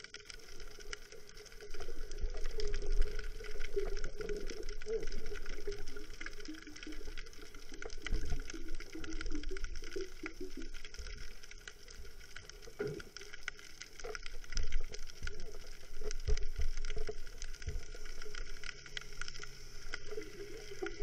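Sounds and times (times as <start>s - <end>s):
faint steady hiss: 0.0s - 21.0s
water moving underwater: 0.0s - 21.0s.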